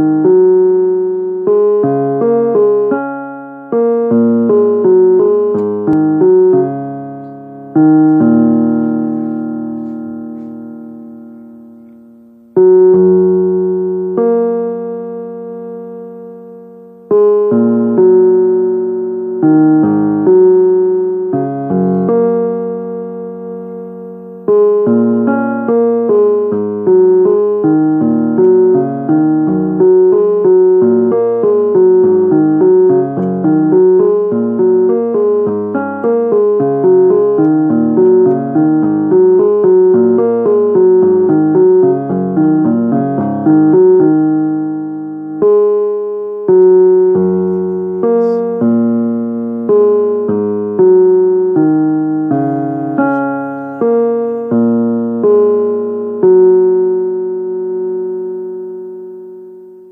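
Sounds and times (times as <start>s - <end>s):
keyboard playing notes and chords: 0.0s - 59.9s.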